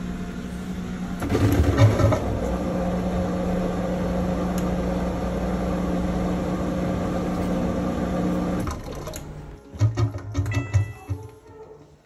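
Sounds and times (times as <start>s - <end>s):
washing machine humming tone: 0.0s - 12.0s.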